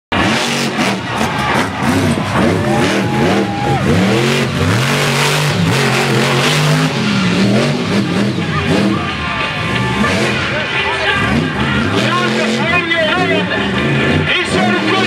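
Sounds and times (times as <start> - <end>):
monster truck engine revving: 0.1 - 15.0.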